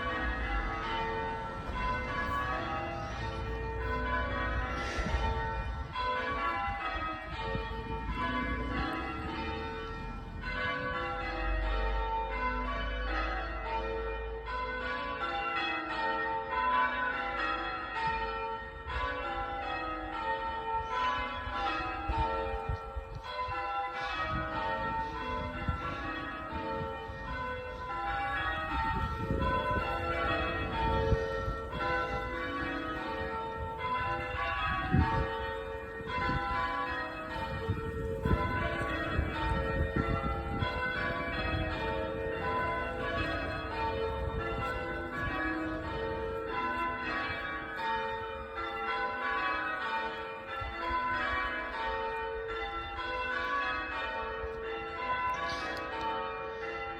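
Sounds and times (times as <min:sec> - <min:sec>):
church bells ringing in sequence: 0:00.0 - 0:56.9.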